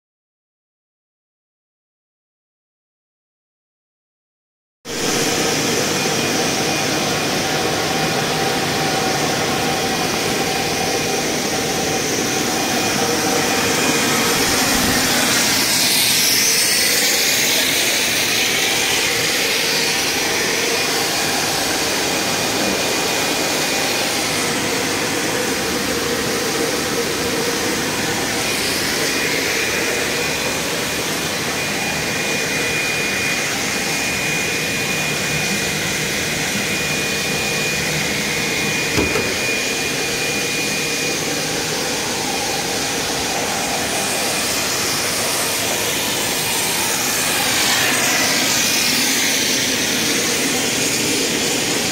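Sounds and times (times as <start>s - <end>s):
high whine: 4.9s - 51.4s
machine whirring: 5.0s - 51.8s.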